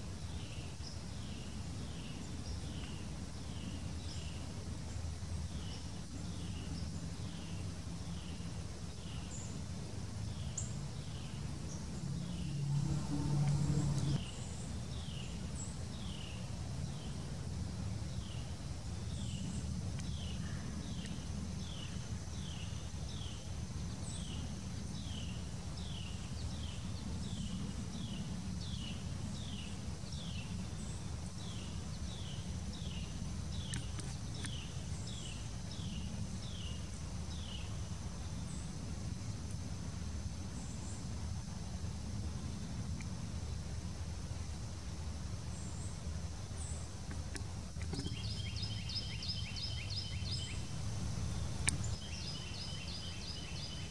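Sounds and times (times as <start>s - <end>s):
low outdoor rumble: 0.0s - 53.9s.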